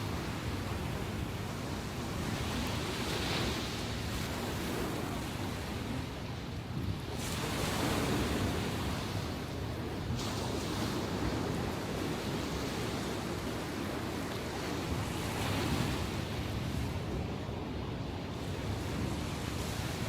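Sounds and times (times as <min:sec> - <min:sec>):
ocean waves breaking on shore: 0:00.0 - 0:20.0
wind rumble on microphone: 0:00.0 - 0:20.0.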